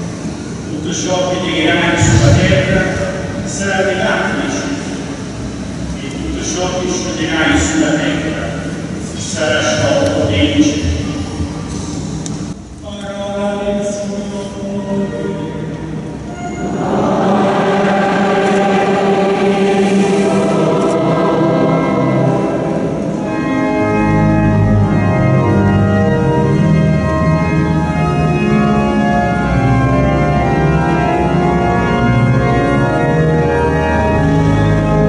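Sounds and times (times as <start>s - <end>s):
church organ chords: 0.0s - 35.0s
deep organ bass notes: 0.7s - 12.8s, 13.6s - 35.0s.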